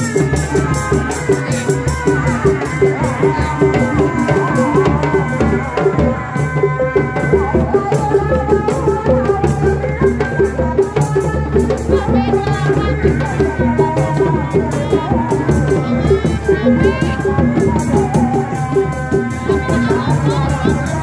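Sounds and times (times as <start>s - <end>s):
frame drums beaten with sticks: 0.0s - 21.0s.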